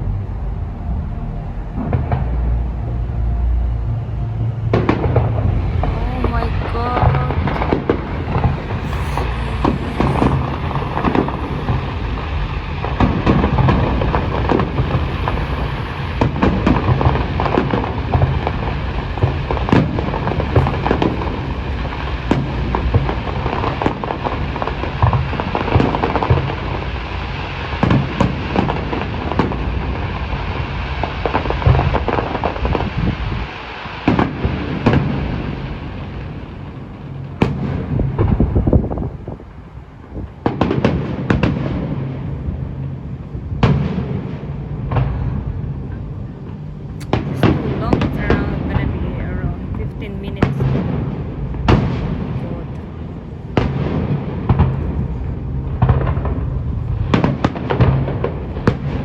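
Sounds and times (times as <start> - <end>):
deep rumble: 0.0 - 59.0
fireworks bangs and crackling: 4.6 - 46.0, 47.0 - 59.0.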